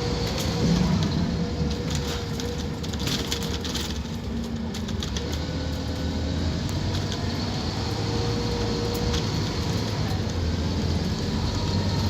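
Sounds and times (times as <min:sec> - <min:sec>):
diesel bus engine droning: 0:00.0 - 0:12.0.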